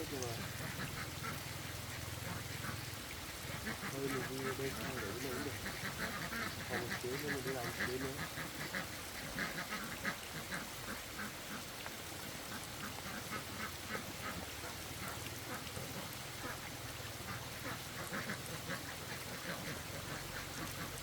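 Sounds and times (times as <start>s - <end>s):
ducks quacking: 0.0s - 11.7s, 12.5s - 21.0s.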